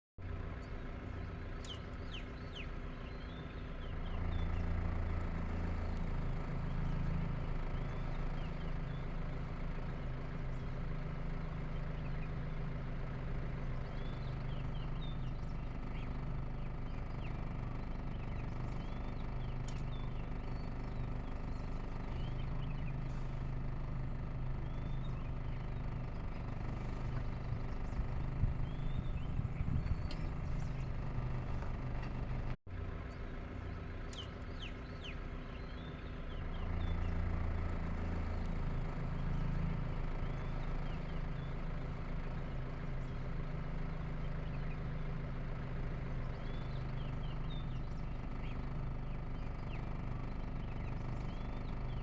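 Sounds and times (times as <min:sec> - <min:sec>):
vehicle engine running: 0:00.2 - 0:52.0.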